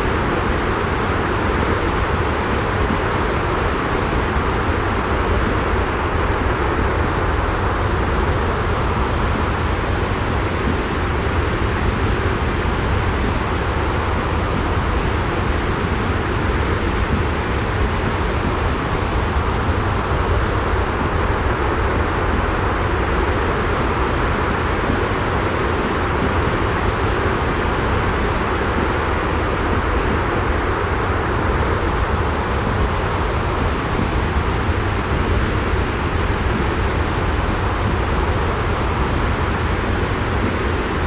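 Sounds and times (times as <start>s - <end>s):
rushing white noise: 0.0s - 41.0s.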